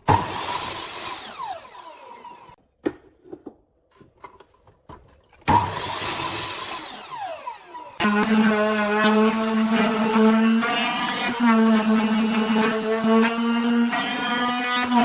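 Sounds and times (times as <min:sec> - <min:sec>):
power tool spinning down: 0:00.0 - 0:02.6, 0:05.5 - 0:15.0.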